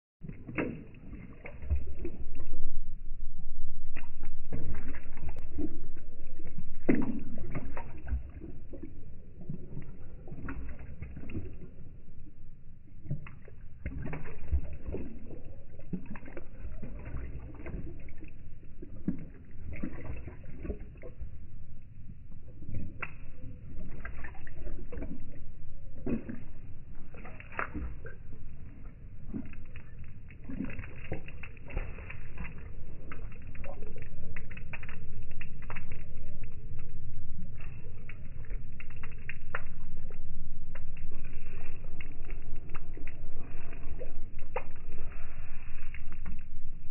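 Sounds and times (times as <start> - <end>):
puppy lapping water from a bowl: 0.2 - 46.9.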